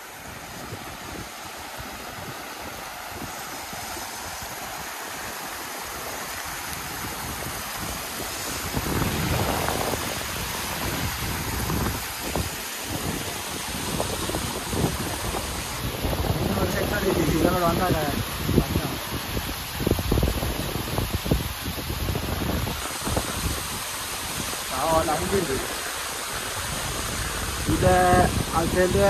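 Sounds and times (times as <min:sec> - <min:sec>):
stream water rushing over rock: 0:00.0 - 0:29.0
wind on microphone: 0:00.0 - 0:29.0.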